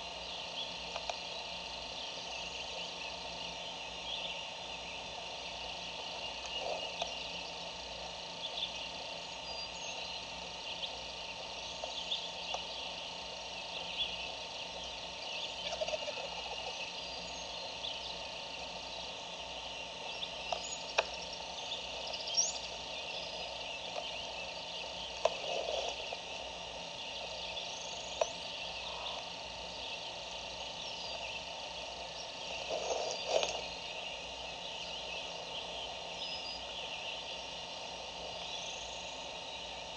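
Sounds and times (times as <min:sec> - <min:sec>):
insects: 0:00.0 - 0:39.9
songbird chorus: 0:00.0 - 0:39.9.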